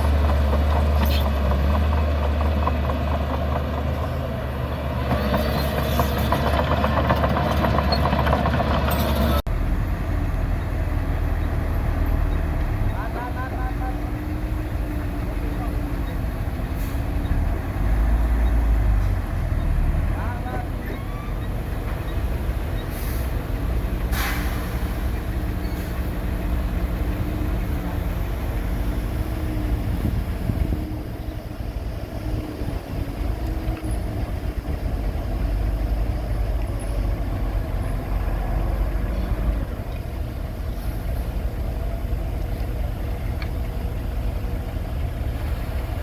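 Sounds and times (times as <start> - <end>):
heavy diesel engine rumbling: 0.0 - 46.0.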